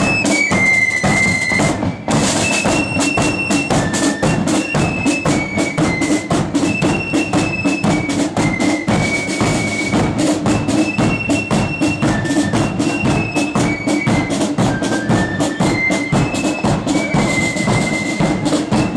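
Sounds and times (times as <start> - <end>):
flute melody: 0.0 - 18.9
side drum strokes: 0.0 - 18.9.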